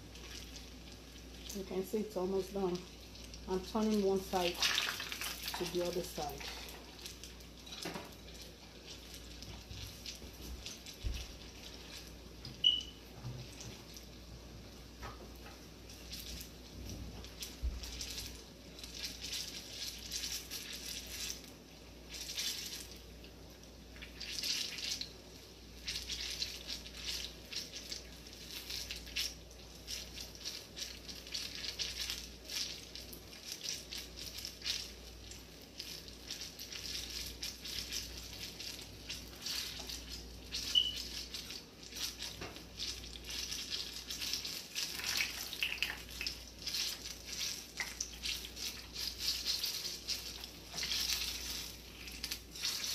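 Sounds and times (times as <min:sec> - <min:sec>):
oil crackling: 0:00.0 - 0:14.2, 0:15.8 - 0:52.9
dough sizzling in hot oil: 0:00.0 - 0:52.9.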